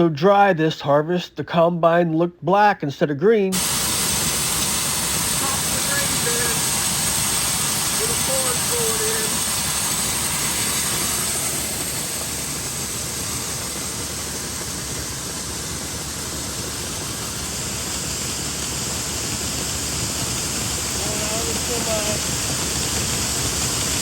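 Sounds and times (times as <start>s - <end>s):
combine harvester running: 3.5s - 24.0s.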